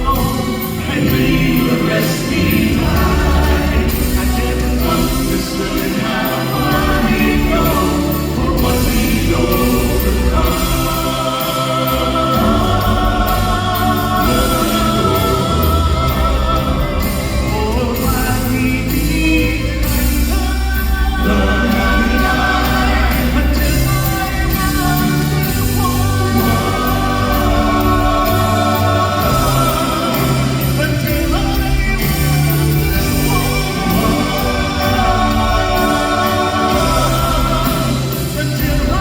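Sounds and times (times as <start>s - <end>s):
gospel group singing: 0.0s - 39.0s
instrumental accompaniment with beat: 0.0s - 39.0s.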